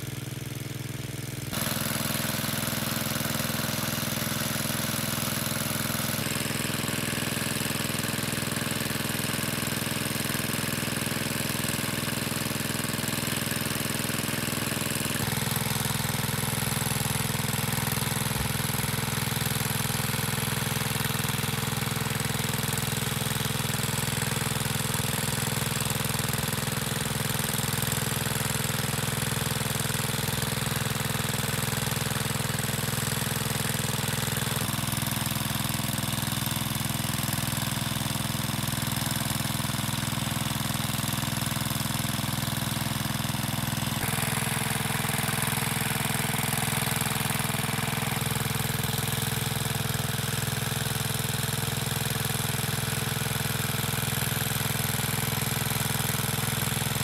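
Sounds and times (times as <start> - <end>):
water pump engine running: 0.0 - 57.0.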